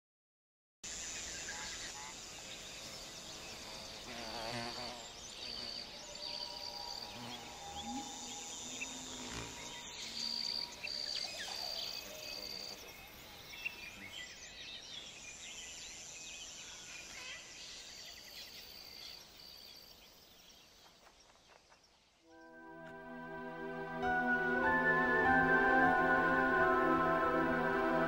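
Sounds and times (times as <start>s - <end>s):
insects droning: 0.9s - 28.0s.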